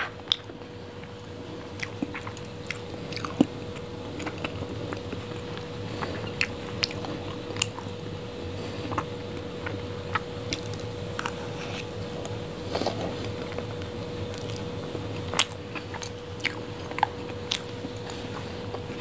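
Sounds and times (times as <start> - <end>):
faint hum: 0.0 - 19.0
wet chewing sounds: 0.2 - 19.0.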